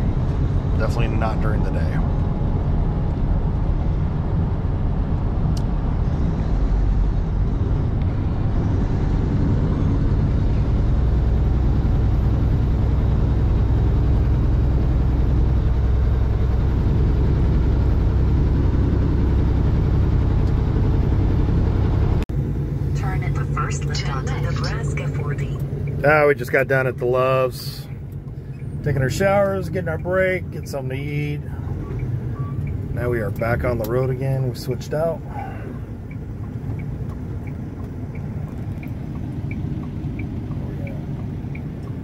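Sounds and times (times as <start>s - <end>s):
road noise: 0.0s - 42.0s
truck engine rumble: 0.0s - 42.0s.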